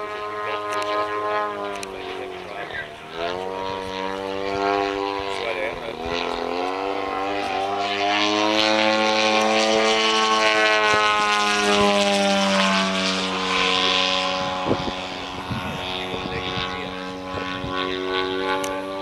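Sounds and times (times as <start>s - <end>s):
model airplane engine buzzing: 0.0s - 19.0s.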